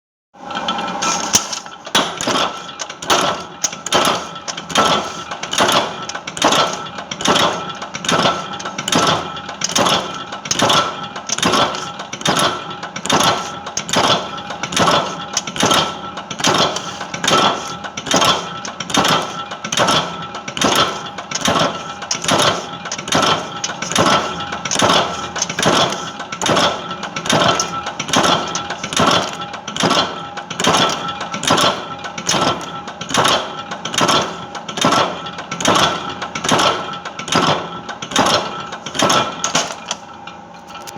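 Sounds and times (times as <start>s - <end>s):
constant machine hum: 0.4s - 40.9s
machine metallic clatter: 0.4s - 40.9s.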